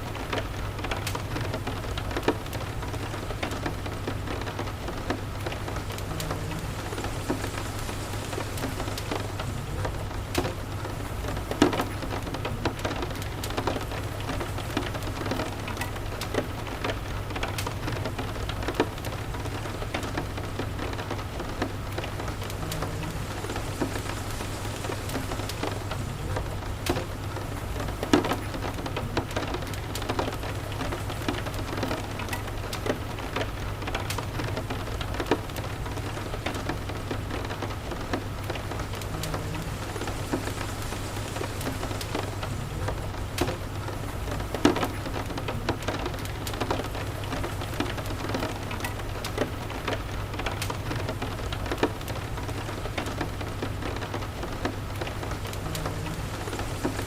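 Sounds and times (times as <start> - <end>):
steady rain: 0.0 - 57.0
wood fire popping and crackling: 0.0 - 57.0.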